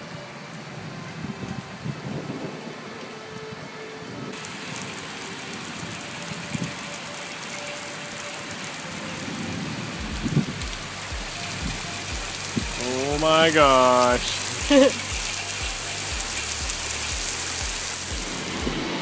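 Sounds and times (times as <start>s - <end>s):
heavy rain on wet street: 0.0s - 19.0s.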